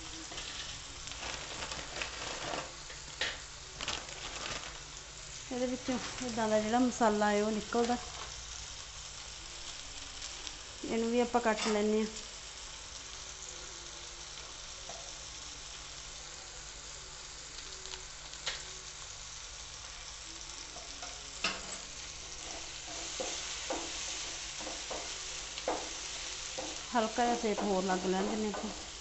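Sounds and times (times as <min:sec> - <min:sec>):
vegetables sizzling in frying pan: 0:00.0 - 0:29.0.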